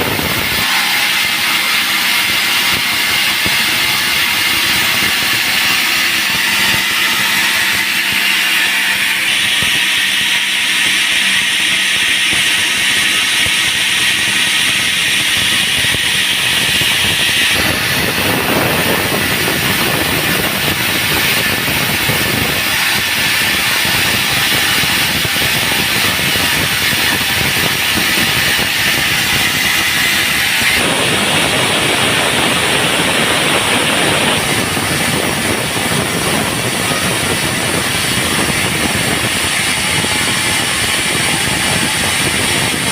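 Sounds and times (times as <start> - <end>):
band saw cutting log: 0.0 - 42.9.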